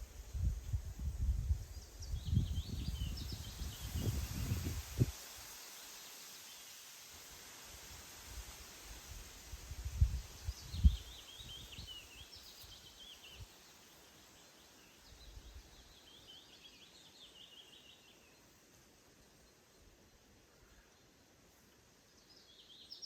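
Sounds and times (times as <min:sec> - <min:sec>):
songbird chirping: 0:00.0 - 0:06.9, 0:09.9 - 0:23.0
steady outdoor hiss: 0:00.0 - 0:23.0.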